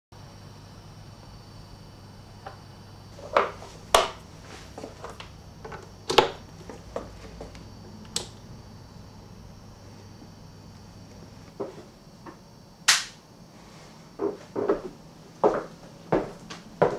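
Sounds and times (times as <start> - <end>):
low electrical hum: 0.2 - 16.9.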